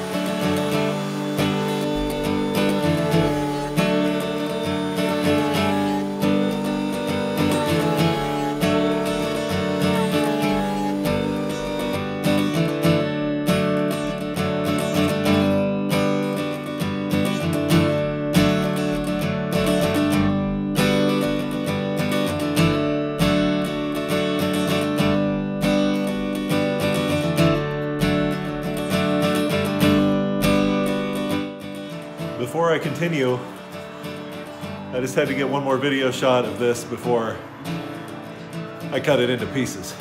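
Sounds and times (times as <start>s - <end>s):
strummed acoustic guitar: 0.0s - 40.0s.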